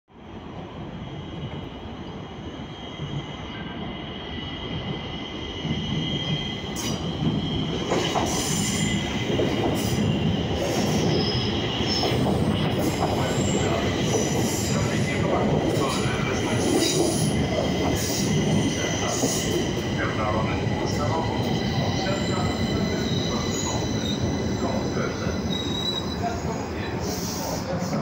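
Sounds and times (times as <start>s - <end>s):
train rumbling on rails: 0.1s - 28.0s.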